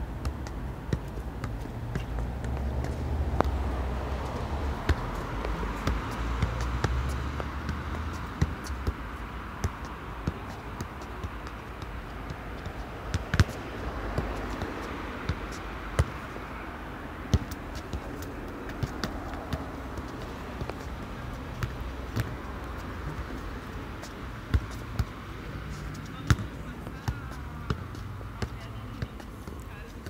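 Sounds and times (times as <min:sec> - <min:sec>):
football taps on feet and ground: 0:00.0 - 0:16.4, 0:17.2 - 0:30.0
outdoor background noise: 0:00.0 - 0:30.0.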